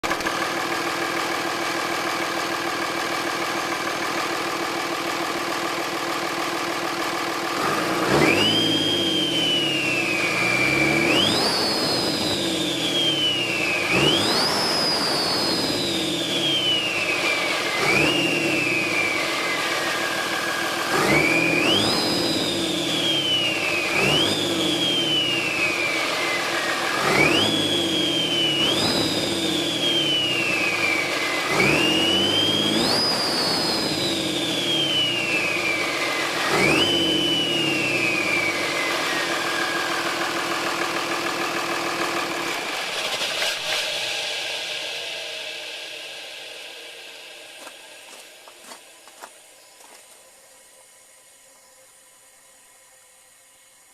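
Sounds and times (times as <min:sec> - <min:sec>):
diesel engine revving: 0:00.0 - 0:50.1
turbocharger whistle: 0:05.7 - 0:48.8.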